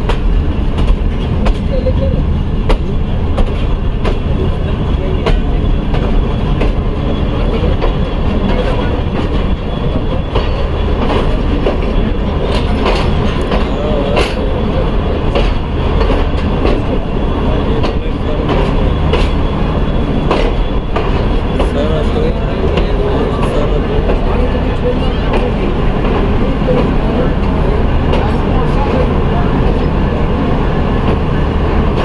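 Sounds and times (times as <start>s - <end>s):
train wheels rumbling on rails: 0.0s - 32.0s
train wheels clacking: 2.6s - 30.2s.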